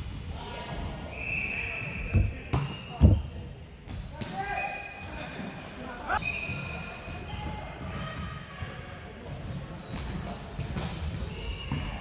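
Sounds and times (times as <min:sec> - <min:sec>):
sneakers squeaking on court floor: 0:01.2 - 0:12.0.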